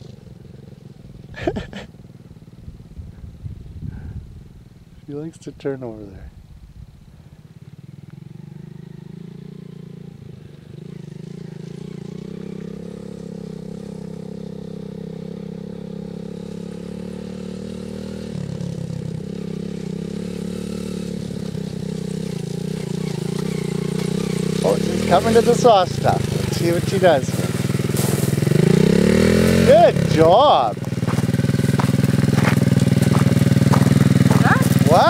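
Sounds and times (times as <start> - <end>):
dirt bike engine running: 0.0 - 5.0, 6.6 - 35.0.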